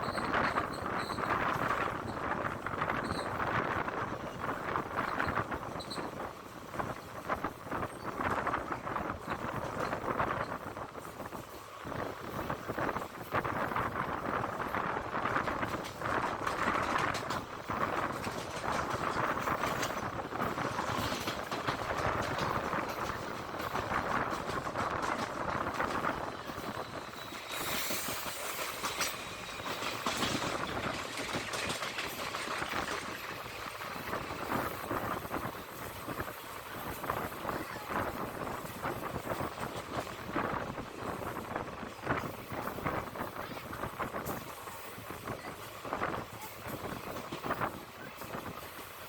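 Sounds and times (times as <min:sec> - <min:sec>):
train passing at speed: 0:00.0 - 0:49.0
wheel clatter over rail joints: 0:00.0 - 0:49.0.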